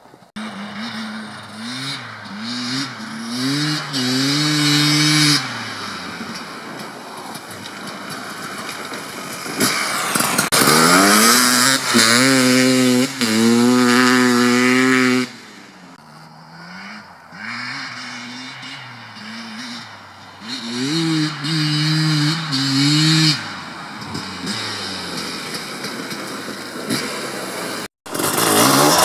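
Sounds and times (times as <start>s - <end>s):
dirt bike engine revving: 0.4s - 29.0s.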